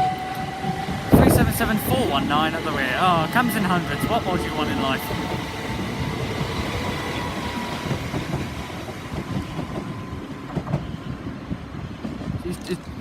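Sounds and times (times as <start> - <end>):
train rumble: 0.0 - 13.0
train wheels clattering over track: 0.0 - 13.0.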